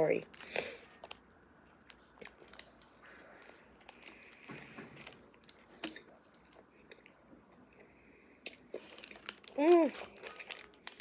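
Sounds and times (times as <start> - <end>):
person chewing: 0.3 - 11.0.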